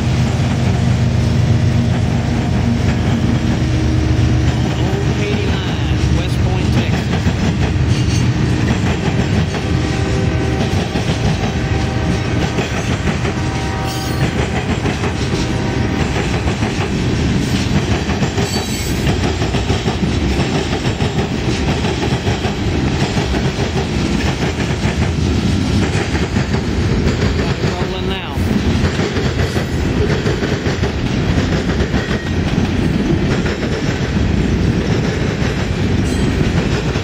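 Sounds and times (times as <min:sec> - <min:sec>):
train wheels rumbling on rail: 0:00.0 - 0:37.0
wheels clacking over rail joints: 0:01.8 - 0:37.0.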